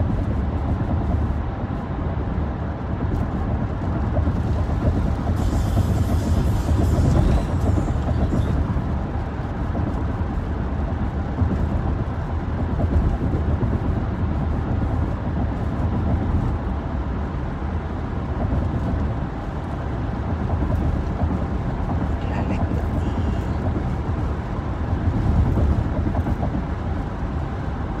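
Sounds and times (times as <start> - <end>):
car engine: 0.0 - 28.0
road rumble: 0.0 - 28.0.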